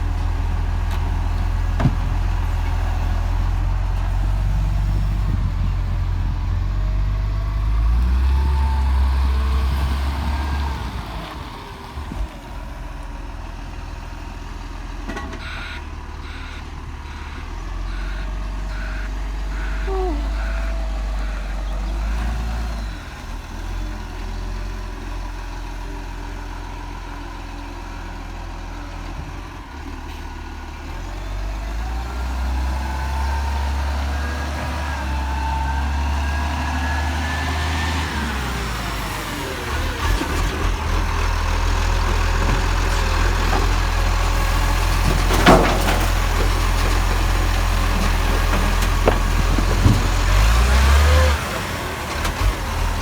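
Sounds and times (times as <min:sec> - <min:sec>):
garbage truck engine running: 0:00.0 - 0:53.0.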